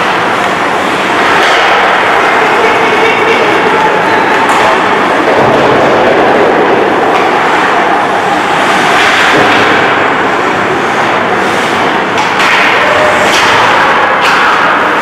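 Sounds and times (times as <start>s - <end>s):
sticks and puck hitting boards: 0.0s - 2.4s, 4.3s - 15.0s
ice hockey rink noise: 0.0s - 15.0s.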